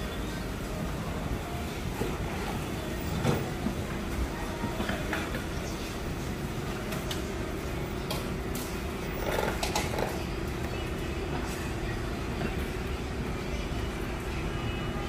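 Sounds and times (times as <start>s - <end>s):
low rumble of background noise: 0.0s - 15.0s.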